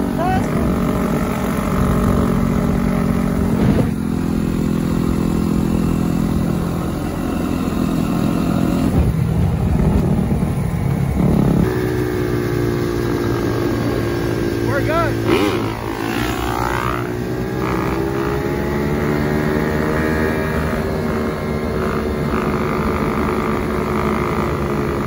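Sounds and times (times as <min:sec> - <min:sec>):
dirt bike engine running: 0:00.0 - 0:25.0.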